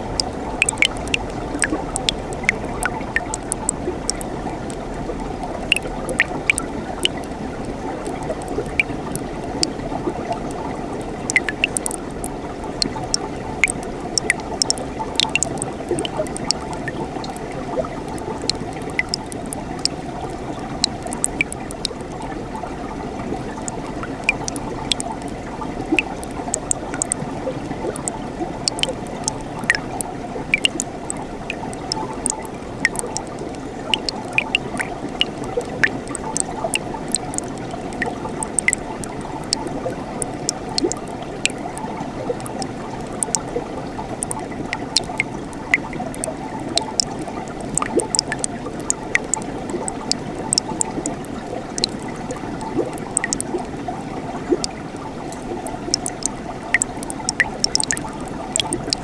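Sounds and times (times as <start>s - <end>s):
small water splashes: 0.0s - 59.0s.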